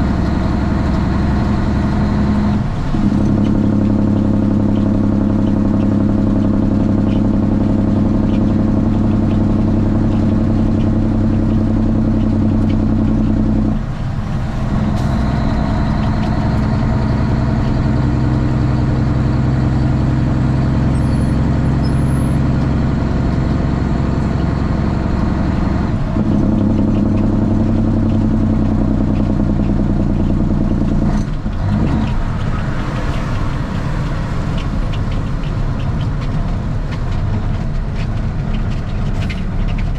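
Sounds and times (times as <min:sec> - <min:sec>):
diesel truck engine running hard: 0:00.0 - 0:39.9.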